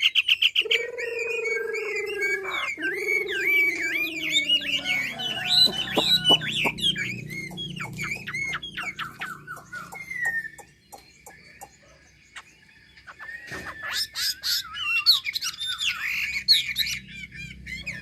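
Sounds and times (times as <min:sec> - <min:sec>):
bird singing whistled notes: 0:00.0 - 0:18.0.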